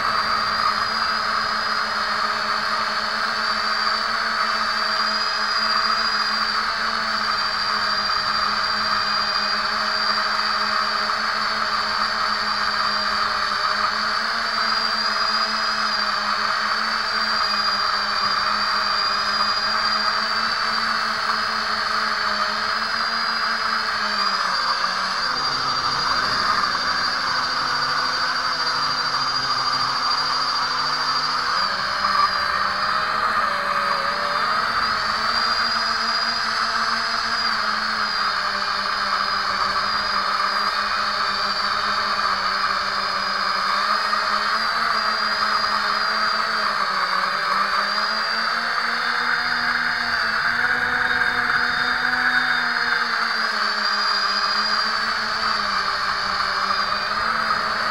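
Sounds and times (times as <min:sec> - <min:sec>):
drone motors and propellers whining: 0:00.0 - 0:57.9.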